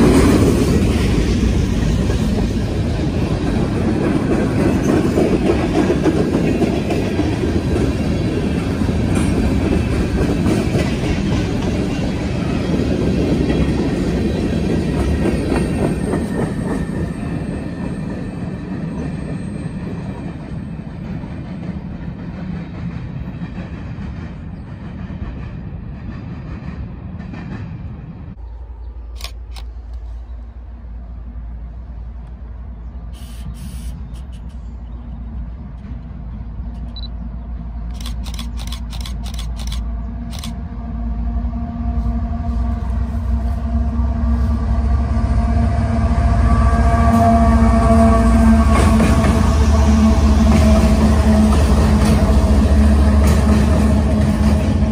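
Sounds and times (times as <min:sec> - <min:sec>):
train wheels rumbling and clattering: 0:00.0 - 0:33.2, 0:34.0 - 0:40.9, 0:41.6 - 0:54.9.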